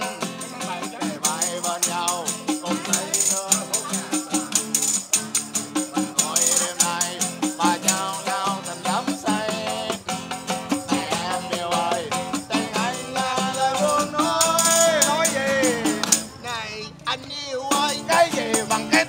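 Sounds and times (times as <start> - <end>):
tambourine shaken: 0.0 - 16.3, 17.7 - 19.0
acoustic guitar: 0.0 - 19.0
man singing: 0.0 - 19.0.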